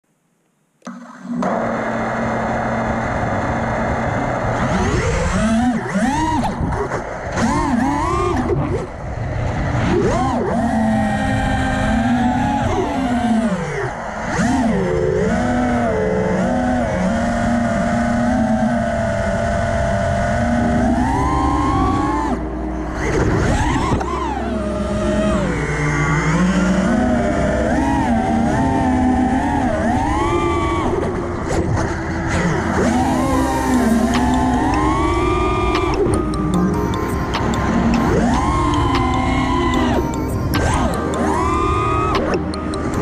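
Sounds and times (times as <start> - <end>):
drone motors whining: 0.8 - 43.0.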